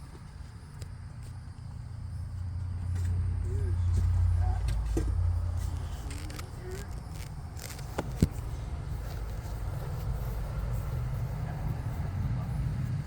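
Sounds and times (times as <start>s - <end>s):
passing vehicle rumble: 1.7s - 13.0s.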